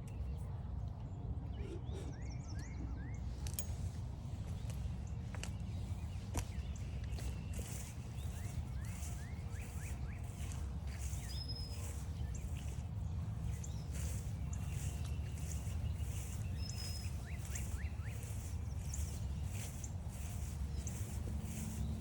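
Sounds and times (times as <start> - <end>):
birds chirping and singing: 1.4 - 22.0
footsteps crunching: 4.3 - 22.0.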